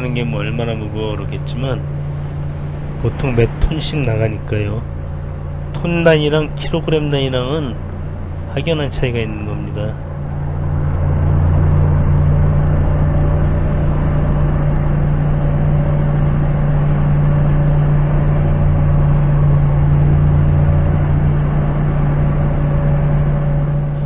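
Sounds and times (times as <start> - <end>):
forklift engine hum: 0.0 - 24.0.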